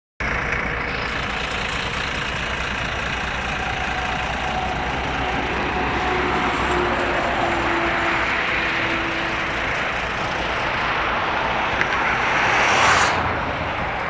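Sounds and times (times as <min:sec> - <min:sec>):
heavy truck engine running: 0:00.2 - 0:14.0.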